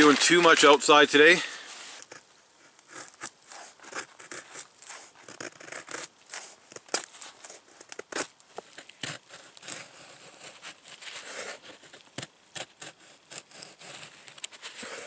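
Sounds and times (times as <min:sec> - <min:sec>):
stiff material rustling and crinkling: 0:00.0 - 0:15.0
sharp clicks and scrapes: 0:01.9 - 0:15.0.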